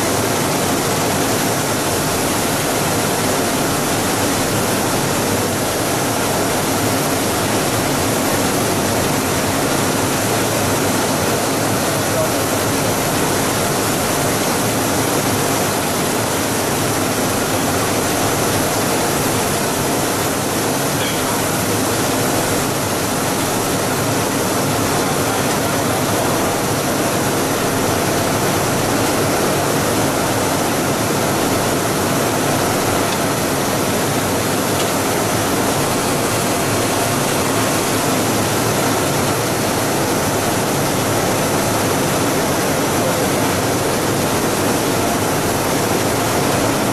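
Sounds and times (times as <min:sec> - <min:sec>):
loud steady machine noise: 0:00.0 - 0:46.9.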